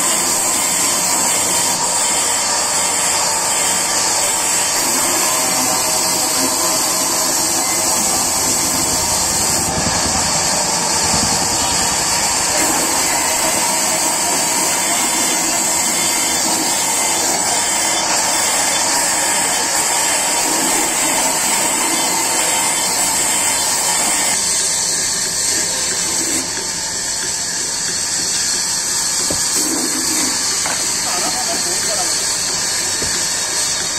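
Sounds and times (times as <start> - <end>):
high hiss of saw blade: 0.0 - 28.1, 28.8 - 33.9
band sawmill sawing log: 0.0 - 33.9.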